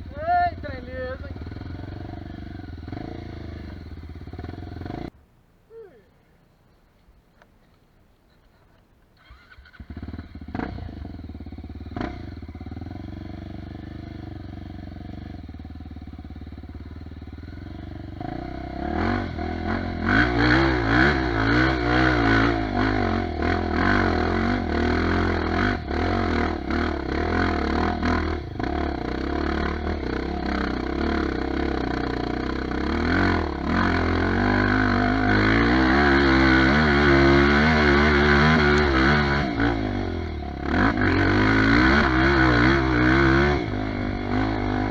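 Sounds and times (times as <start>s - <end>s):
dirt bike engine revving: 0.0s - 5.1s, 9.2s - 44.9s.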